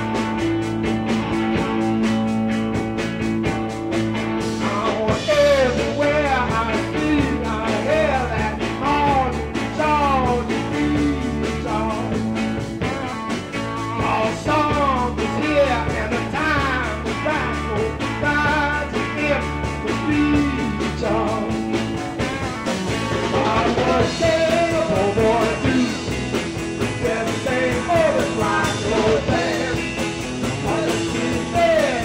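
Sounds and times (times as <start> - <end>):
bass guitar: 0.0 - 32.0
drums: 0.0 - 32.0
electric guitars: 0.0 - 32.0
male lead vocal: 4.5 - 13.1, 13.8 - 22.0, 22.9 - 32.0.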